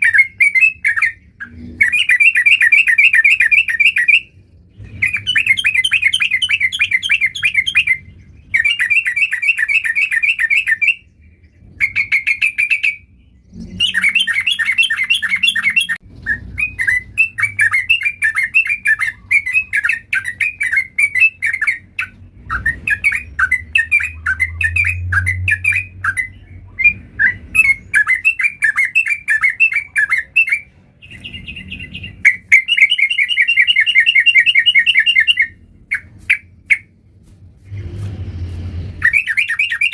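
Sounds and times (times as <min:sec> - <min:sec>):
bulbul singing: 0:00.0 - 0:37.0, 0:39.0 - 0:39.9.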